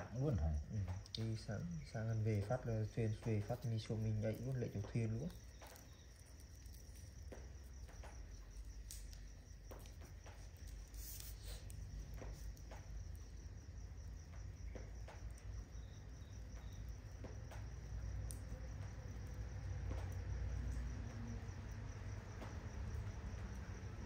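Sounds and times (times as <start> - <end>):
crickets chirping: 0.0 - 24.0
faint clicks and crackles: 0.1 - 24.0.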